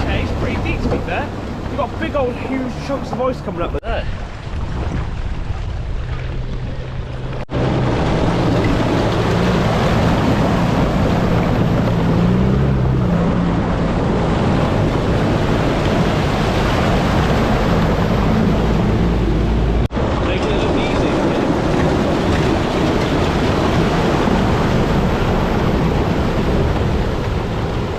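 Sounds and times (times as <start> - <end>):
water splashing: 0.0 - 27.9.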